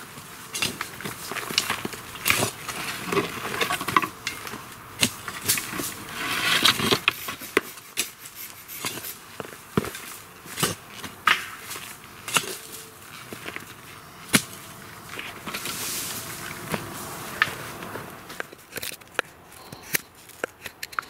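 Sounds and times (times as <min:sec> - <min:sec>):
shovel scraping and striking soil: 0:00.0 - 0:21.0.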